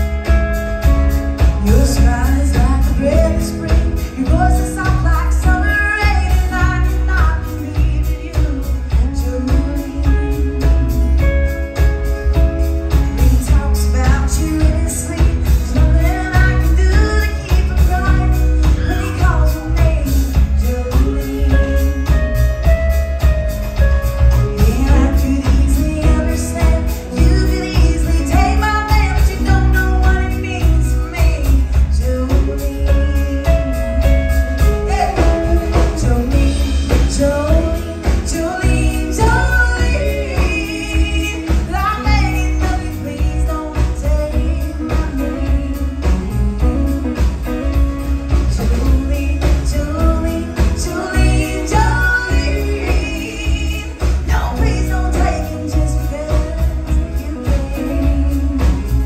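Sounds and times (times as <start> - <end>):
acoustic guitar: 0.0 - 59.0
bass guitar: 0.0 - 59.0
steady drum beat: 0.0 - 59.0
woman singing: 0.0 - 59.0.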